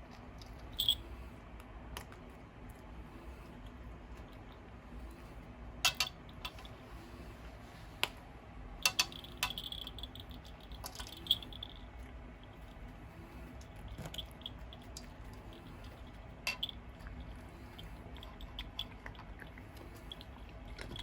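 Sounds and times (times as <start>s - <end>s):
pet crunching dry kibble: 0.0s - 5.1s, 9.2s - 21.0s
ventilation fan hum: 0.0s - 21.0s.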